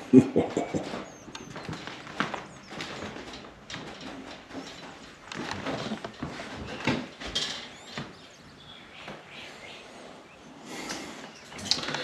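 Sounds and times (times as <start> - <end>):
rustling of people moving: 0.0 - 12.0.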